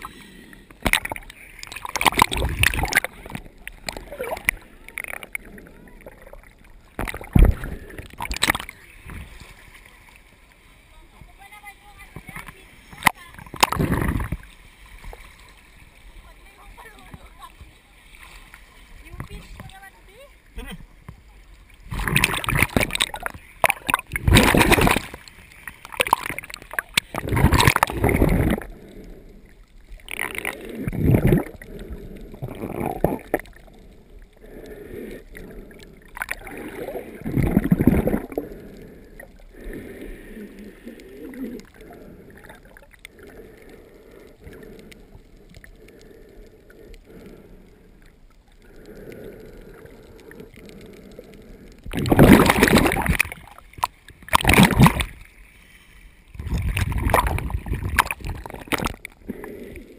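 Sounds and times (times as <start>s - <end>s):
underwater water gurgling and rushing: 0.0s - 59.9s.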